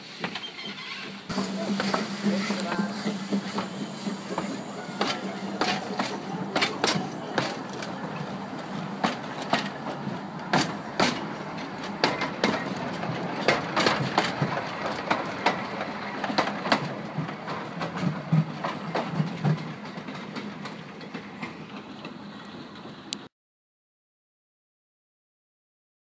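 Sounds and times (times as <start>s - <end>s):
train carriages rolling past: 0.0s - 23.3s
wheels clattering over rail joints: 0.2s - 23.2s.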